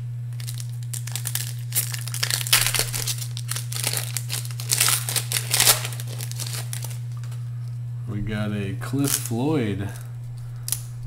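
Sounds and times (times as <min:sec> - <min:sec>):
steady low hum: 0:00.0 - 0:11.0
wrapper crinkling and tearing: 0:00.3 - 0:07.3, 0:08.9 - 0:11.0.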